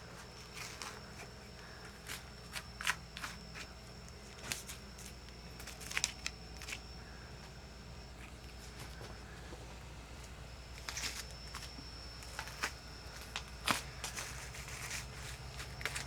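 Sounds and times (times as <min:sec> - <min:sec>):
faint low hum: 0:00.0 - 0:16.0
faint steady high tone: 0:00.0 - 0:16.0.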